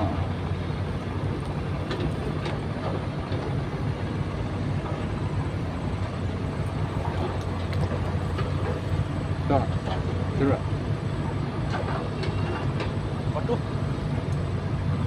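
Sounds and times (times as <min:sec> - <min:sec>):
engine running drone: 0:00.0 - 0:15.0.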